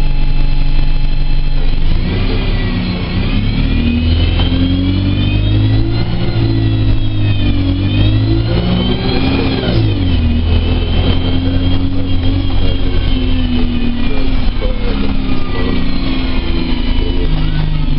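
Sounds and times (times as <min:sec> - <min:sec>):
bus engine with high whine: 0:00.0 - 0:17.9.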